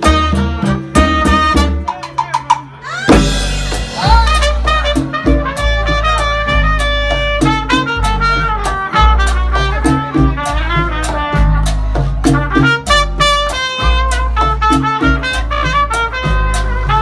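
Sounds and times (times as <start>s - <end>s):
saxophone: 0.0s - 2.0s, 2.8s - 17.0s
latin percussion: 0.0s - 17.0s
trumpet lead: 0.0s - 17.0s
repeating bass line: 3.1s - 17.0s.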